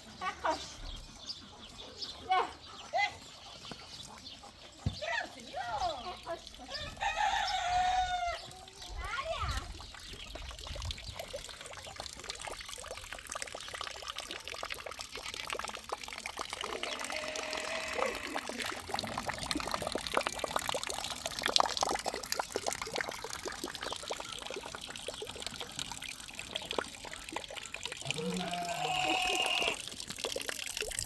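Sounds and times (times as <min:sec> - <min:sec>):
water drips and patters: 0:00.0 - 0:31.0
water pouring and splashing: 0:03.6 - 0:31.0.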